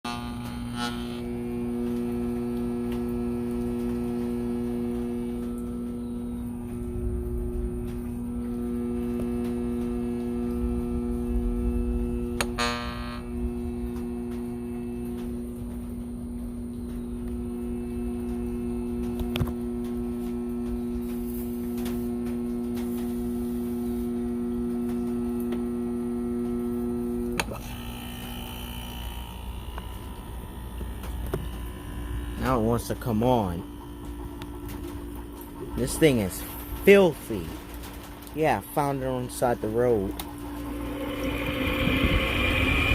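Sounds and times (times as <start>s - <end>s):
air conditioner compressor buzzing: 0.0s - 42.9s.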